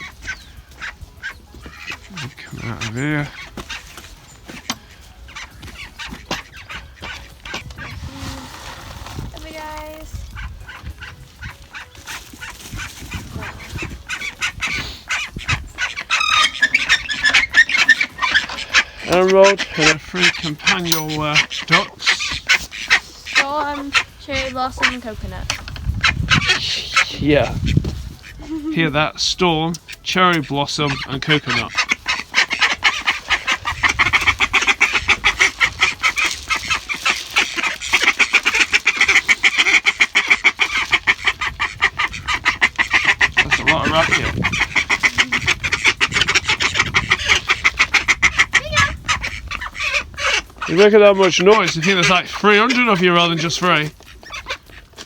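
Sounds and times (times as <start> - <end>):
ducks quacking: 0.0 - 55.0.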